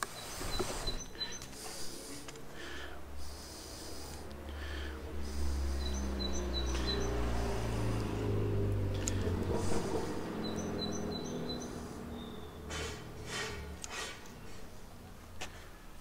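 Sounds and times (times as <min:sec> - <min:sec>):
small birds chirping: 0:00.0 - 0:14.9
low engine rumble: 0:00.0 - 0:16.0.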